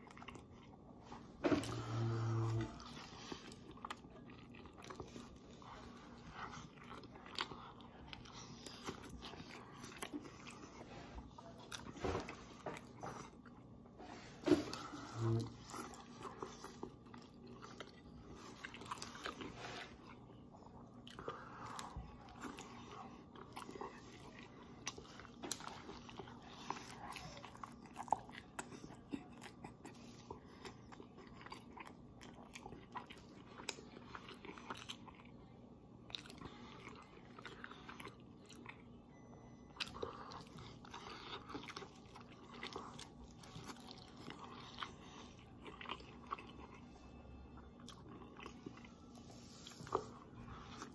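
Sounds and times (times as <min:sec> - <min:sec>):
wet chewing and biting: 0:00.0 - 0:13.8, 0:14.4 - 0:39.0, 0:39.7 - 0:50.9.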